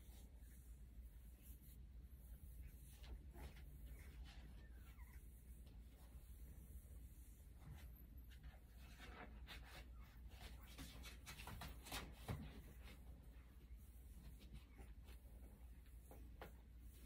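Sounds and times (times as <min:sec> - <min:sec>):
fingers rubbing puppy fur: 0:00.0 - 0:17.0.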